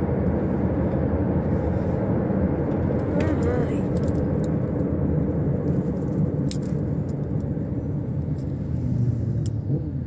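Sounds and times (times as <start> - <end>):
low rumble inside car cabin: 0.0 - 10.0.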